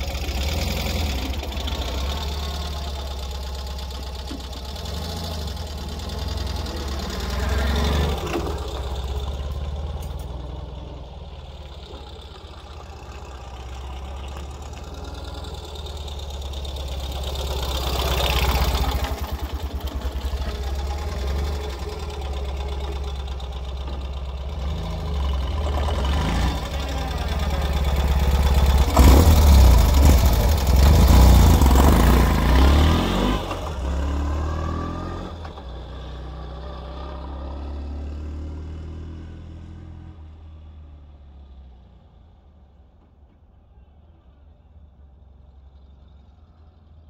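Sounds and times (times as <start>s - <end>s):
motorcycle engine accelerating: 0.0s - 40.6s.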